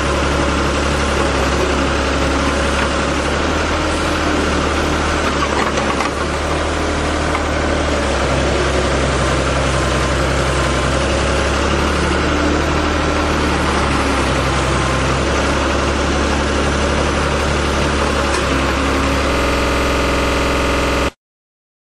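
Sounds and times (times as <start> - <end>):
diesel engine running: 0.0 - 21.2.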